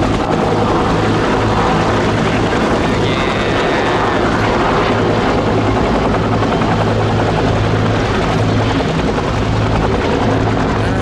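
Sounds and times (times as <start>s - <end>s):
helicopters hovering: 0.0s - 11.0s.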